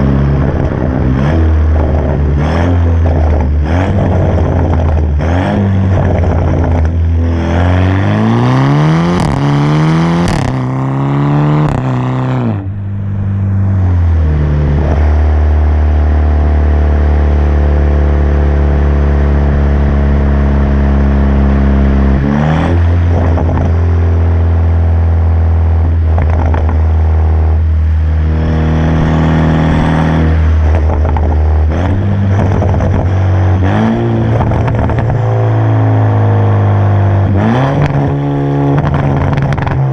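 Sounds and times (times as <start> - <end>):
car engine revving loudly: 0.0 - 39.9.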